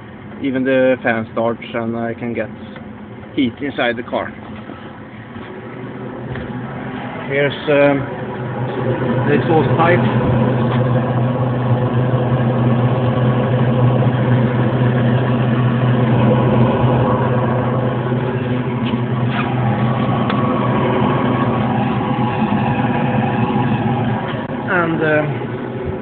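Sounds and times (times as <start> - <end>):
diesel heater combustion rumble: 0.0 - 26.0.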